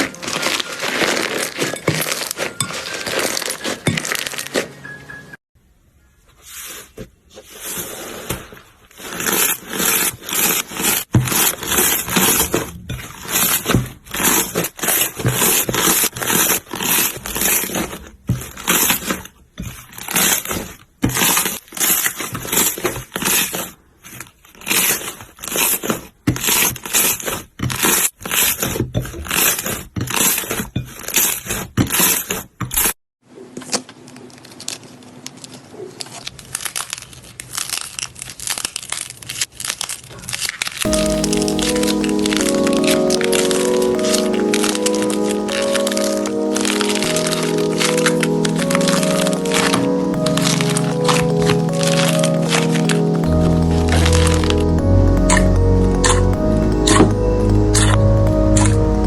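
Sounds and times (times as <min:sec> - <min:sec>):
soft crinkling: 0:00.0 - 0:04.8, 0:06.0 - 0:32.4, 0:33.3 - 0:53.2.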